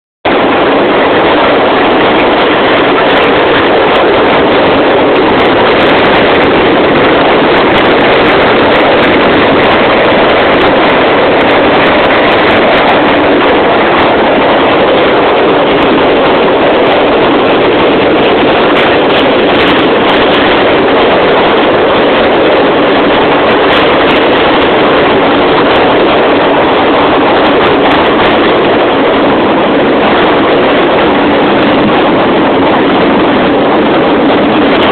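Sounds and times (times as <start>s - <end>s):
train roaring through tunnel: 0.3s - 34.9s.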